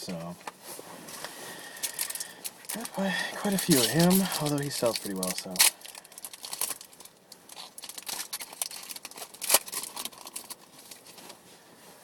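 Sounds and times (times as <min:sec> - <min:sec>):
packaging rustling and crinkling: 0:00.8 - 0:11.5.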